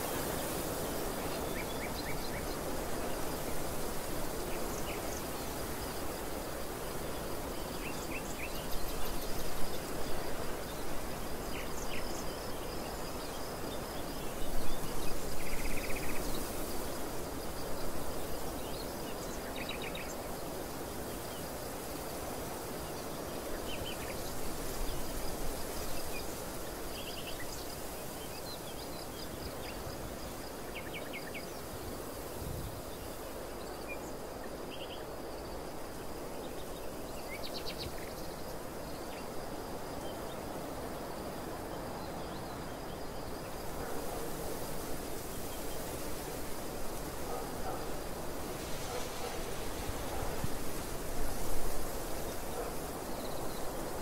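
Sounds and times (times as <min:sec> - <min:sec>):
wind gusting across a field: 0:00.0 - 0:54.0.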